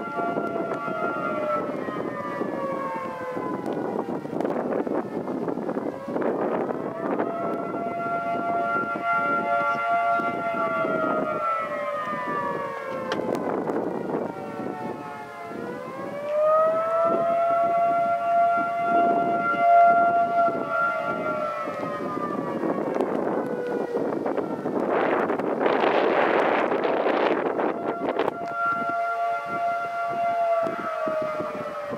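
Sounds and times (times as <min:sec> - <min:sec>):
two-tone warning siren wailing: 0:00.0 - 0:31.9
wind gusts on microphone: 0:00.0 - 0:31.9.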